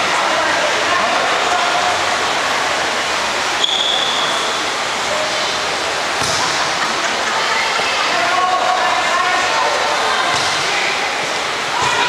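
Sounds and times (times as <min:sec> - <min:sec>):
crowd chatter echoing: 0:00.0 - 0:12.0.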